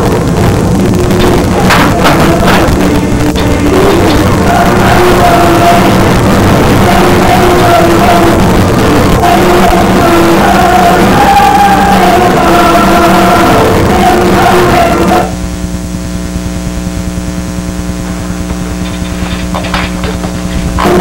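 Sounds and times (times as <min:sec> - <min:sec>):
loud music with singing: 0:00.0 - 0:15.5, 0:17.9 - 0:21.0
steady hum: 0:00.0 - 0:21.0.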